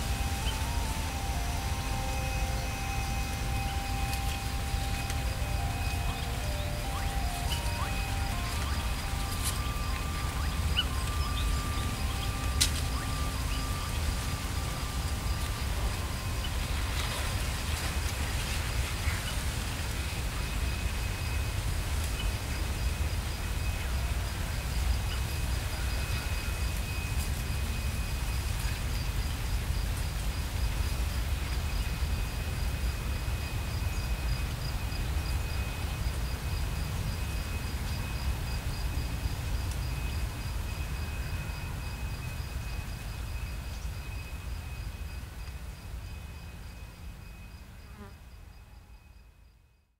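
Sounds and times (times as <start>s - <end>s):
low wind rumble: 0.0s - 49.2s
insects trilling: 0.0s - 49.8s.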